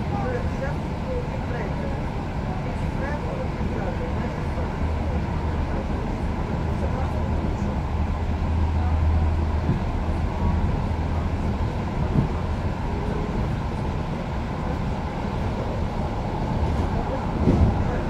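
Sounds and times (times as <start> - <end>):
train rumble and wheel noise: 0.0 - 18.0.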